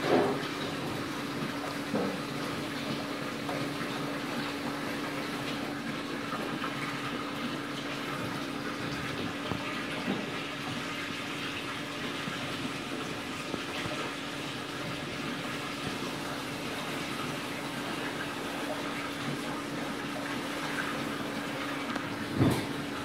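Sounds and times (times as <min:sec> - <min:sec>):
pump humming: 0:00.0 - 0:23.0
water rushing in tank: 0:00.0 - 0:23.0.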